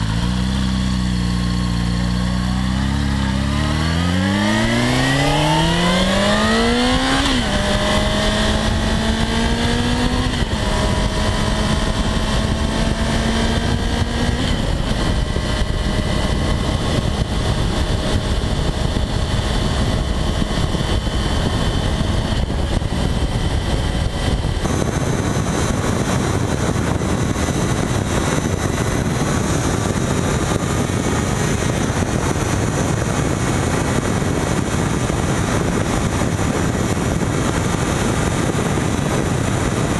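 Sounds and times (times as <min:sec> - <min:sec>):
motorcycle engine revving: 0:00.0 - 0:39.9
wind noise rushing: 0:02.6 - 0:39.9.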